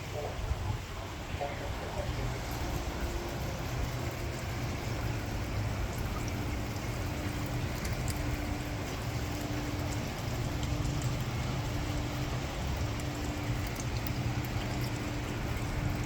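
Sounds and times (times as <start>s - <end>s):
drips and splashes: 0.0s - 16.0s.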